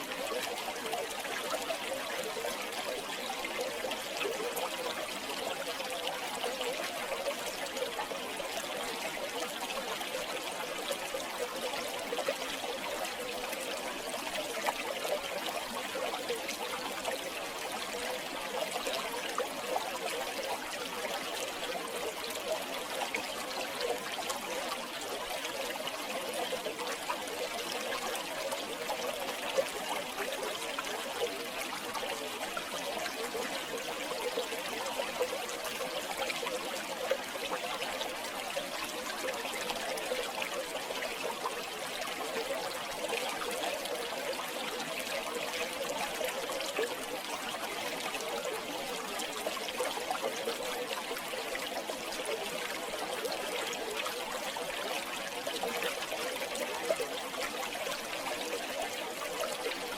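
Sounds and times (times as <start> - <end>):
river water flowing over stones: 0.0 - 59.9.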